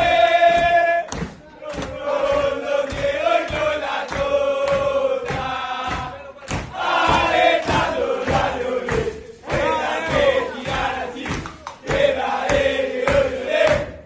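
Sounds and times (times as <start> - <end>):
clapping and stamping beat: 0.0 - 14.0
men chanting in unison: 0.0 - 14.0.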